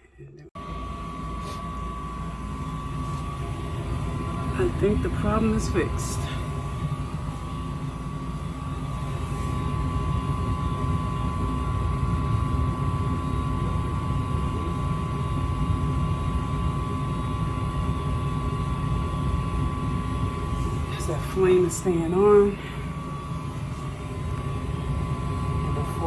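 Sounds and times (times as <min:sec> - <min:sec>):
gas furnace rumbling: 0:00.5 - 0:26.0
steady high whine: 0:00.5 - 0:26.0.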